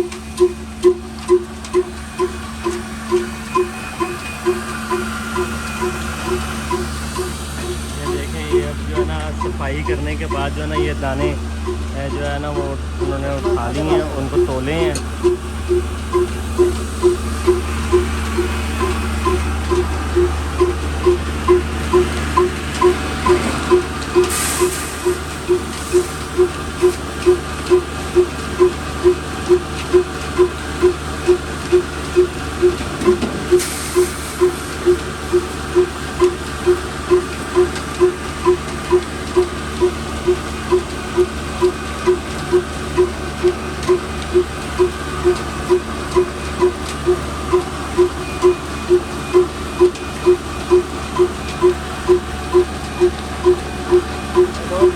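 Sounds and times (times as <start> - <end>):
diesel engine knocking: 0.0 - 54.9
flour mill hum: 0.0 - 54.9.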